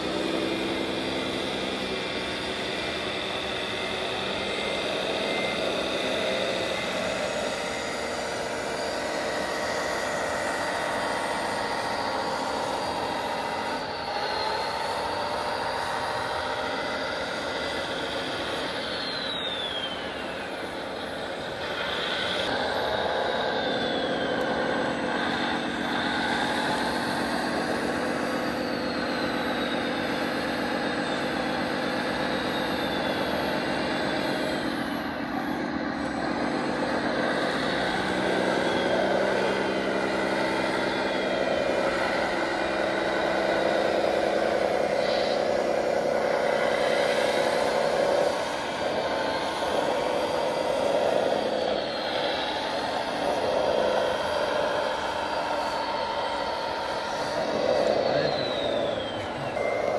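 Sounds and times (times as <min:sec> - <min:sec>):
model vehicles engine drone: 0:00.0 - 0:59.9
motor whines: 0:00.0 - 0:59.9.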